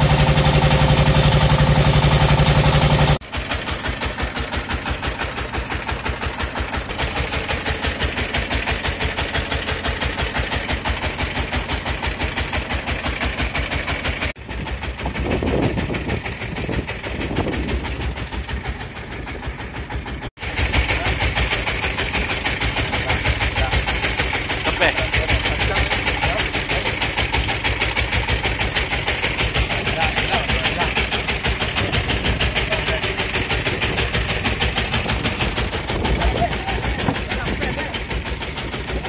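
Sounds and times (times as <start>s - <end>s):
boat engine pulsing: 0.0s - 39.0s.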